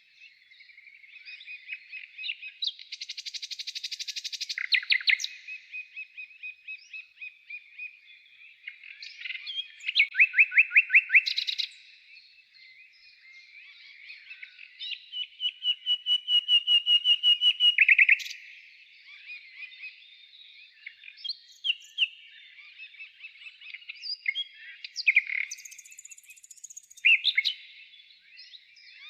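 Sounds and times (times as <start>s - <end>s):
loud trilled birdsong: 0.0s - 29.0s
songbirds twittering: 0.0s - 29.0s.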